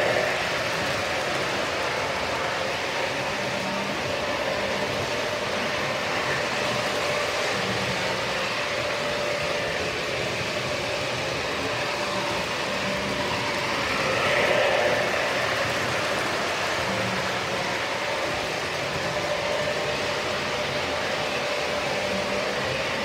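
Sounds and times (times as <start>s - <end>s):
model trains rolling rumble: 0.0s - 23.0s.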